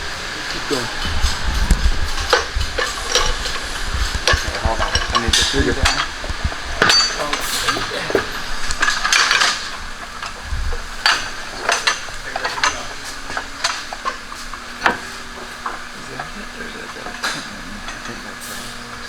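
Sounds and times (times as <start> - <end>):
steady hiss: 0.0 - 19.0
metal tools clinking: 2.2 - 18.8.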